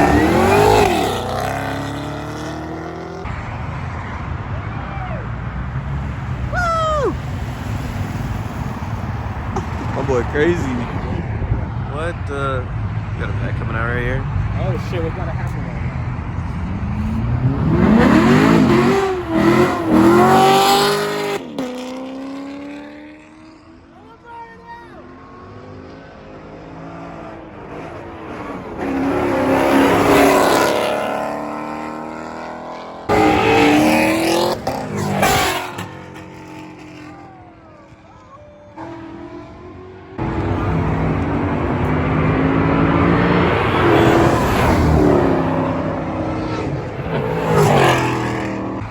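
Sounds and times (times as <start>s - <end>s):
car engine revving and accelerating: 0.0s - 23.9s, 25.0s - 38.0s, 38.6s - 48.9s.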